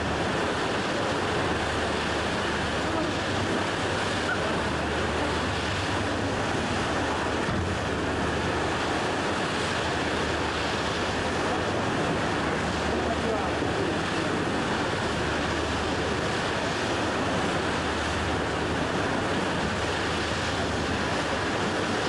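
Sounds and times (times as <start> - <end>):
choppy water: 0.0 - 22.0
wind buffeting microphone: 0.0 - 22.0.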